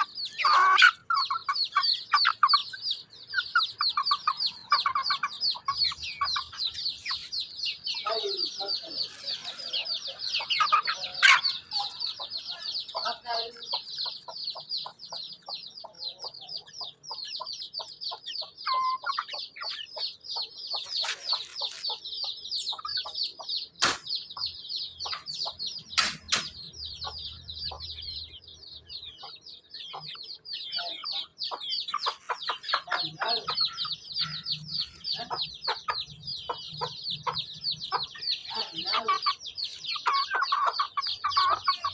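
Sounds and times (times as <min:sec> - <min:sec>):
chickens clucking: 0:00.0 - 0:41.9
chicks peeping: 0:00.0 - 0:41.9.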